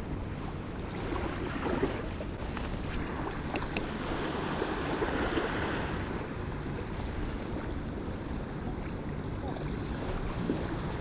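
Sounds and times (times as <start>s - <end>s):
sea water washing: 0.3s - 11.0s.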